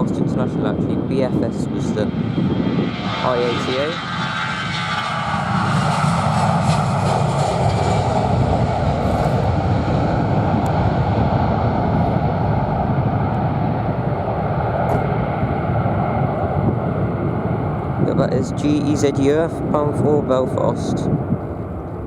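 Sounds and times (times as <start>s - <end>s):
jet engines roaring: 0.0s - 22.0s
wind rumble on microphone: 0.0s - 22.0s.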